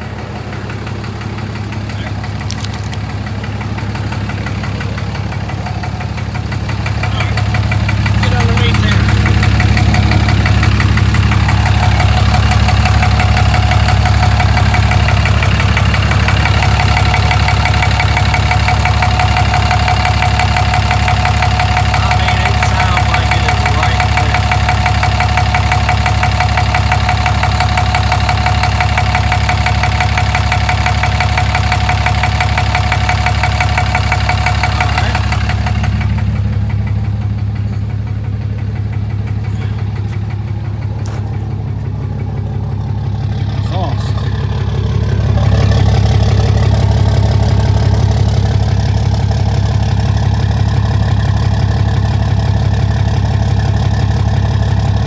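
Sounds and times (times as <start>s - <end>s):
diesel engine idling with knock: 0.0s - 55.0s.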